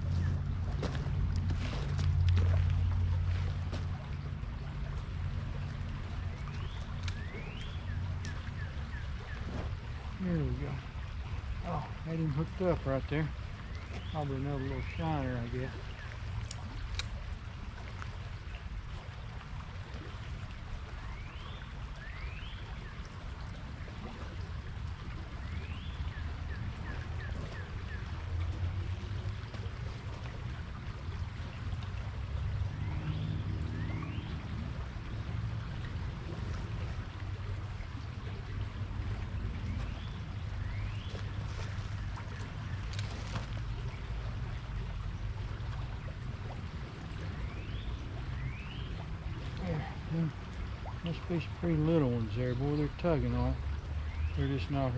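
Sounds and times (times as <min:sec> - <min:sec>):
creek running over riffle: 0:00.0 - 0:54.9.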